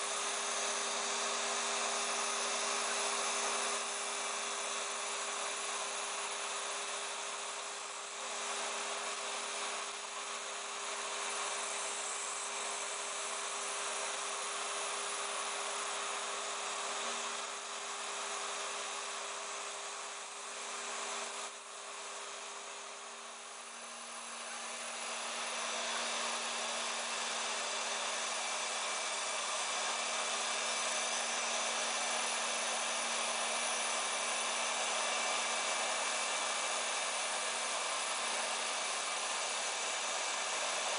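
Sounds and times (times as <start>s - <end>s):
router spindle motor running: 0.0s - 40.9s.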